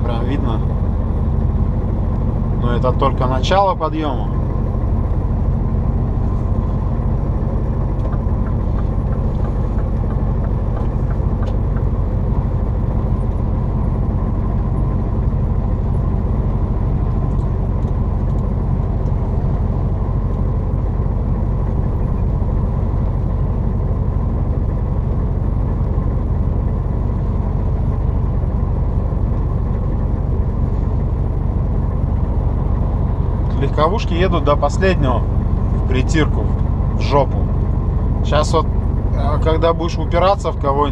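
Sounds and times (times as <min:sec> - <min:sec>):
diesel truck engine drone: 0:00.0 - 0:40.9.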